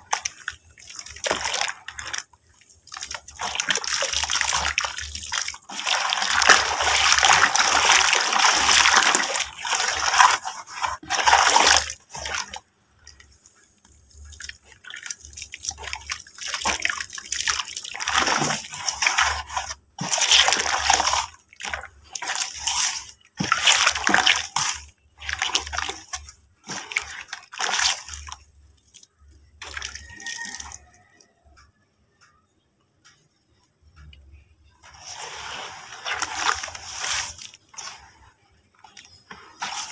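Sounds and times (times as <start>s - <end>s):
hands sloshing water in tub: 0.0s - 13.2s, 14.1s - 29.0s, 29.6s - 30.8s, 34.8s - 39.9s.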